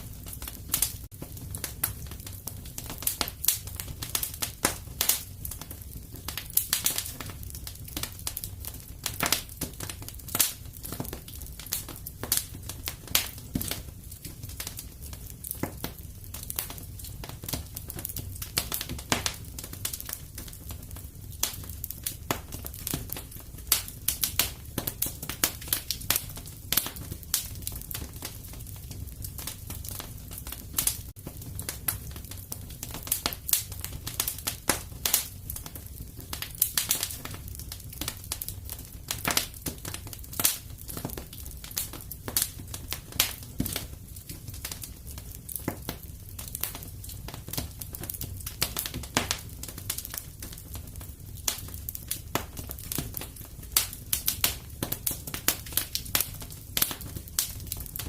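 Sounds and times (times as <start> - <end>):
fire popping and snapping: 0.0 - 58.0
low rumble of flames: 0.0 - 58.0.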